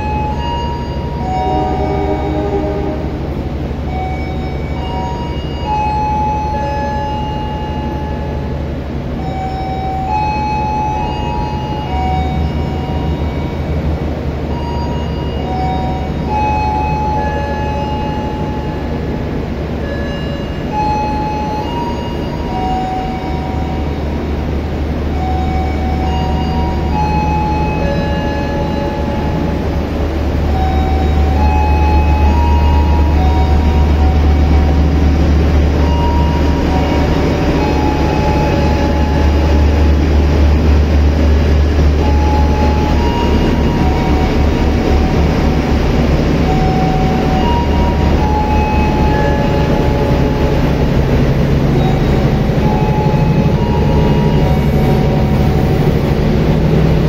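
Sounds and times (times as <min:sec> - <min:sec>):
diesel locomotive engine rumbling: 0:00.0 - 0:57.0.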